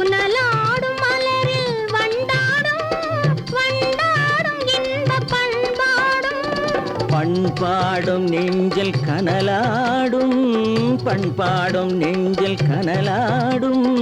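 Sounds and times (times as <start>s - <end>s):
tabla rhythm: 0.0s - 14.0s
ornamented melody line: 1.1s - 14.0s.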